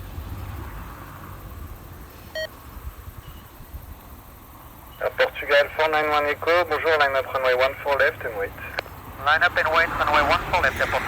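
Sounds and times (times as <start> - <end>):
low rumble and hiss: 1.4 - 11.0.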